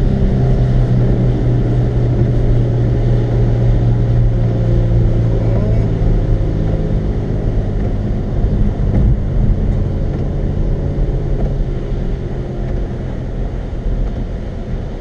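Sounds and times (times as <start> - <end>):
car engine and tyre hum: 0.0 - 15.0.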